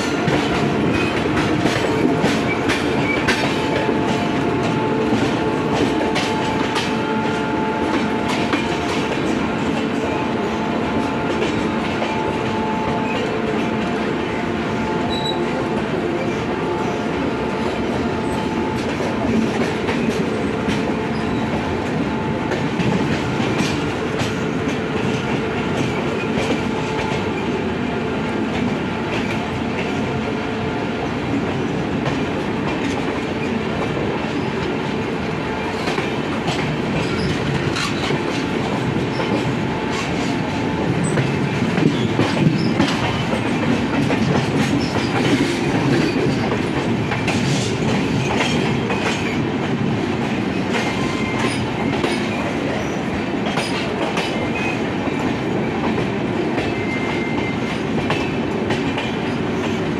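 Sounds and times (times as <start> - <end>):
train wheels clickety-clack: 0.0 - 59.9.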